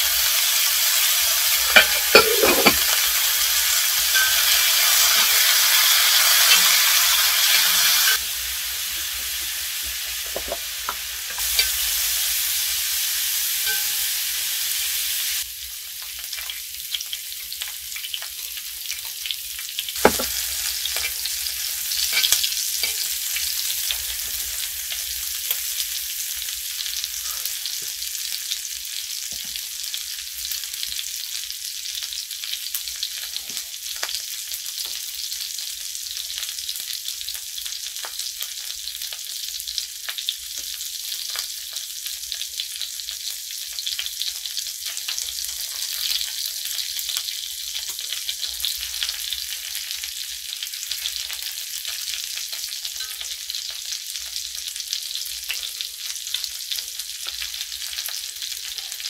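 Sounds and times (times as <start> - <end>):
pork sizzling in a pan: 0.0 - 59.0.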